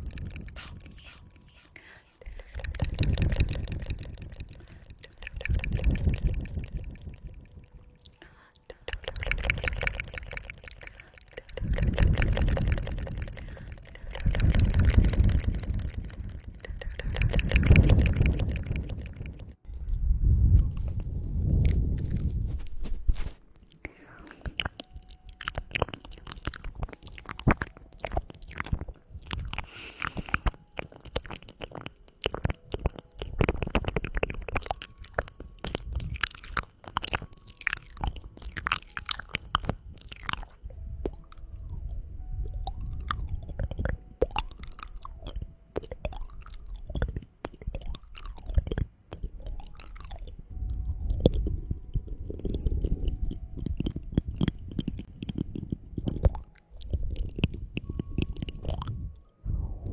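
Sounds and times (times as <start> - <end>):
wet tongue clicks: 0.0 - 20.0, 23.6 - 59.3.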